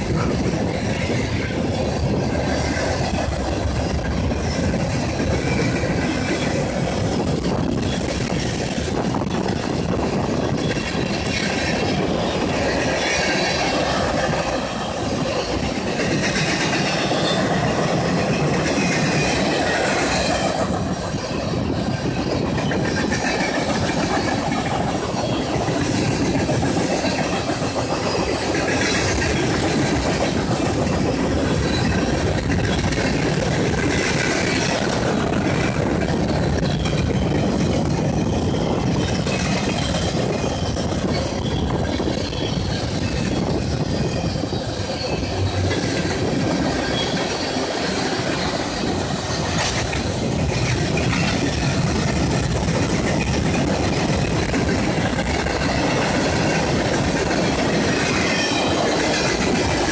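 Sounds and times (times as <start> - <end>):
train wheels running on rails: 0.0 - 59.9.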